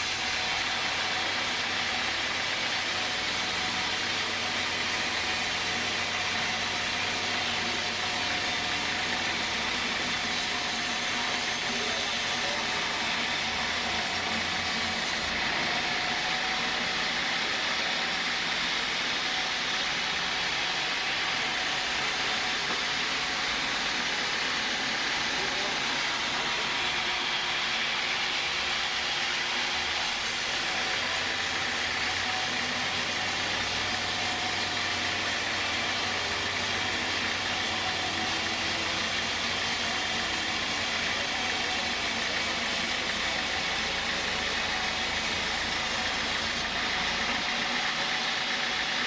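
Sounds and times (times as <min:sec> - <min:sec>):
sawmill saw running: 0:00.0 - 0:49.0.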